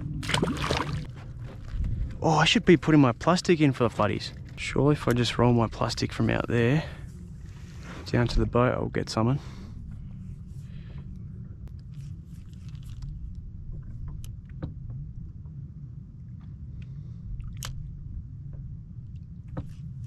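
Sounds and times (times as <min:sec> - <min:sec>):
water around a boat: 0:00.0 - 0:20.0
wind rumbling: 0:00.0 - 0:20.0.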